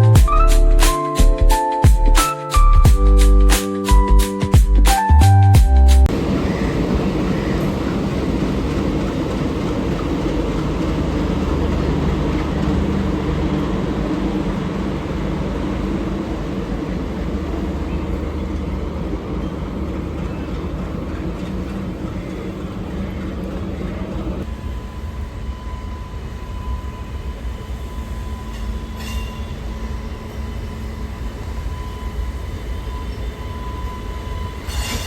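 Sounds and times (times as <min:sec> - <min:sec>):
train running on track: 0:06.0 - 0:35.0.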